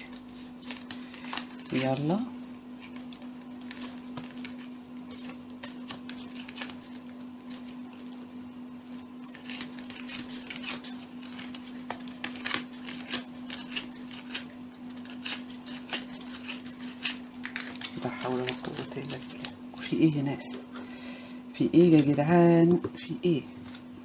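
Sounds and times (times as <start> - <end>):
cards being shuffled: 0.0 - 2.2, 2.8 - 20.0, 21.6 - 23.9
steady low hum: 0.0 - 24.0.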